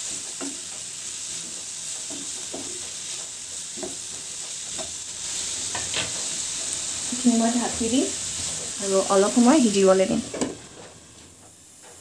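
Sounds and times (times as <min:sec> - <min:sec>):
spatula scraping a pan: 0:00.0 - 0:09.8
food sizzling in oil: 0:00.0 - 0:12.0.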